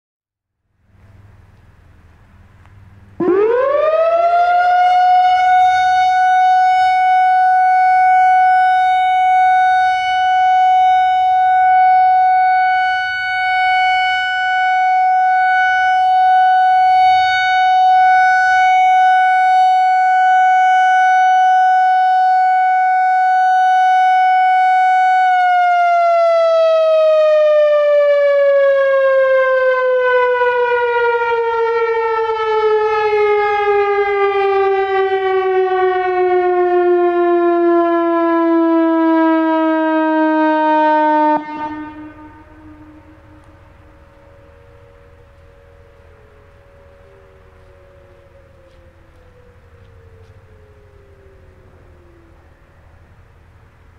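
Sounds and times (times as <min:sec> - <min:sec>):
electronic siren wailing: 0:03.2 - 0:53.6.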